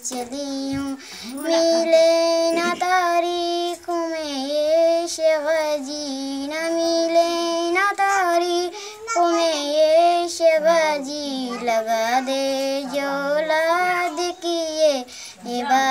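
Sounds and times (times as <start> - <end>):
girl singing devotional song: 0.0 - 15.9.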